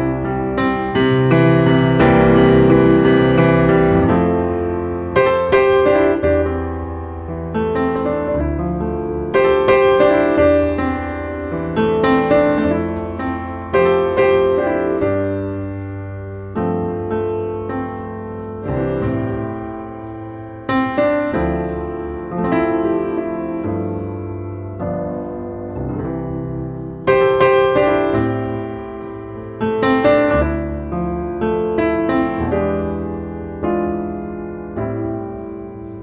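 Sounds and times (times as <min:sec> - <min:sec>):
low piano bass notes: 0:00.0 - 0:36.0
slow piano chords: 0:00.0 - 0:36.0.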